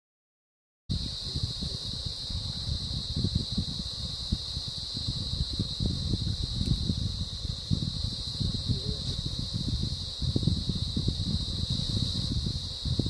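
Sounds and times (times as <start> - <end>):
high-pitched insect chorus: 0.9 - 13.0
microphone rumble and bumps: 0.9 - 13.0.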